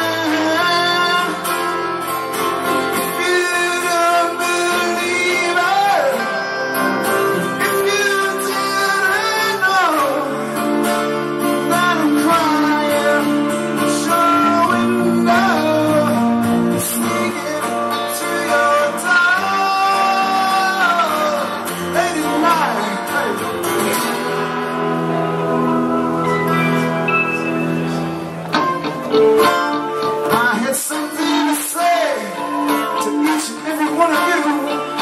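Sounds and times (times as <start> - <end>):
acoustic guitars strumming chords: 0.0 - 35.0
electric guitar sliding melody: 0.0 - 35.0.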